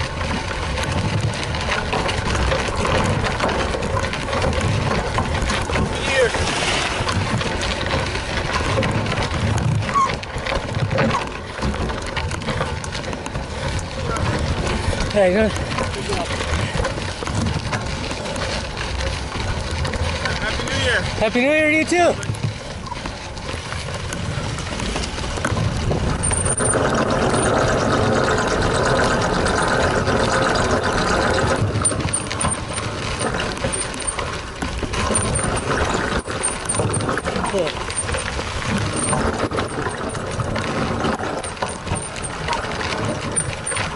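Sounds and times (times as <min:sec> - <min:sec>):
bike rattles and clicks: 0:00.0 - 0:43.9
tyres crunching on gravel: 0:00.0 - 0:43.9
wind rumble on microphone: 0:00.0 - 0:43.9.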